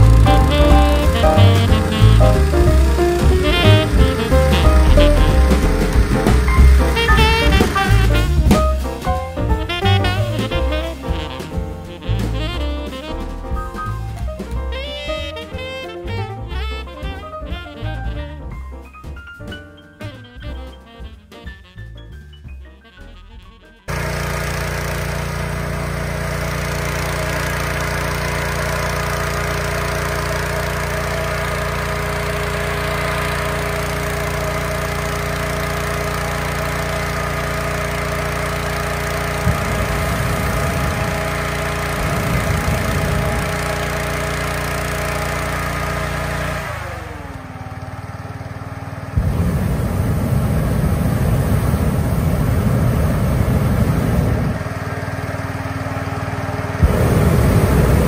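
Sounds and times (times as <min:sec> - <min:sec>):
propane burner blast: 0:00.0 - 0:14.2, 0:23.9 - 0:58.0
inflator fan engine: 0:00.0 - 0:22.6, 0:23.8 - 0:58.0.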